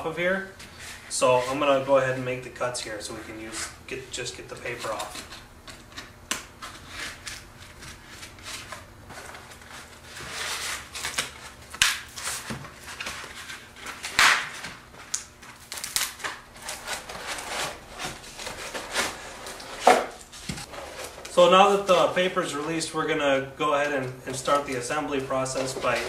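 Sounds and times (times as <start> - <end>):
scraping and crackling paper shell: 0.3 - 26.0.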